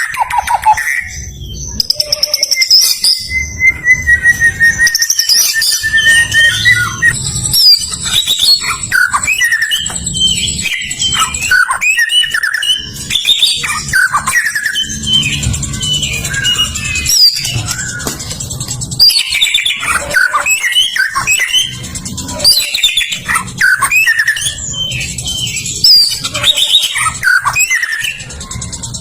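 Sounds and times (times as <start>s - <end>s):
bird singing whistles and trills: 0.0s - 29.0s.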